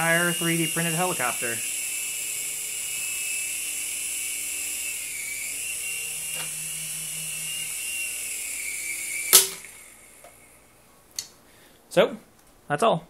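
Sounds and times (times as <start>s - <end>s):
toy helicopter whine: 0.0s - 10.8s.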